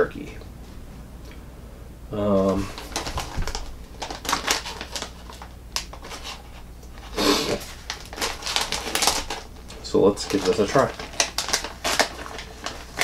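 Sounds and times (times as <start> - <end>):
plastic bag crinkling: 2.3 - 13.0.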